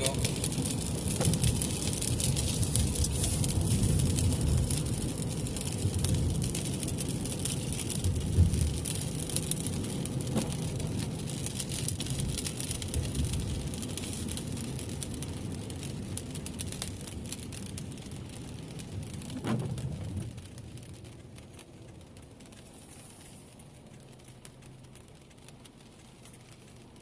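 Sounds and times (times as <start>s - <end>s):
car road and engine rumble: 0.0s - 27.0s
rain hissing on car: 0.0s - 27.0s.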